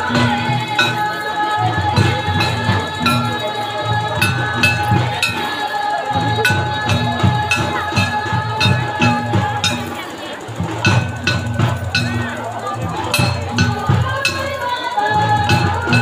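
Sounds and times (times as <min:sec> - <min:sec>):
drums beating a steady rhythm: 0:00.0 - 0:16.0
held high tones: 0:00.0 - 0:16.0.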